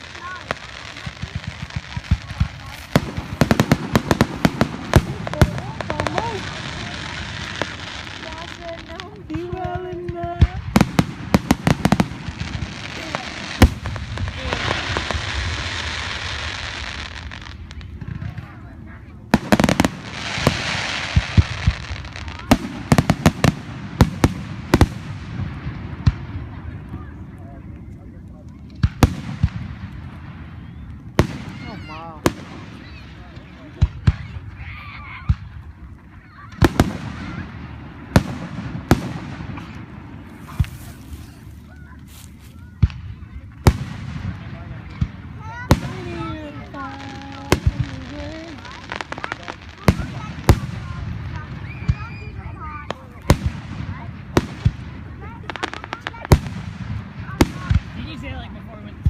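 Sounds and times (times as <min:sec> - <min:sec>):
crackling fireworks hiss: 0:00.0 - 0:59.0
fireworks bangs: 0:00.0 - 0:59.0.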